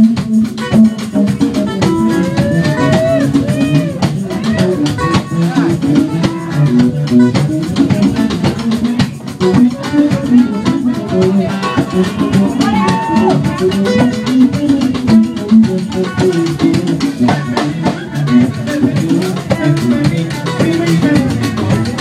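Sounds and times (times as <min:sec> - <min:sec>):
drums: 0:00.0 - 0:22.0
electric guitar: 0:00.0 - 0:22.0
walking bass line: 0:00.0 - 0:22.0.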